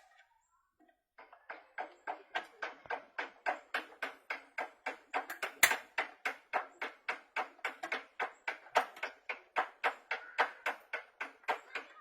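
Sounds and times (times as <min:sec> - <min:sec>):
fast sharp knocks: 0:01.2 - 0:12.0.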